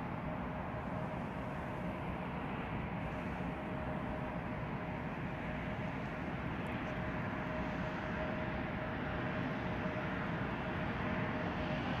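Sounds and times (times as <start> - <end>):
jet airliner engines running: 0.0 - 12.0.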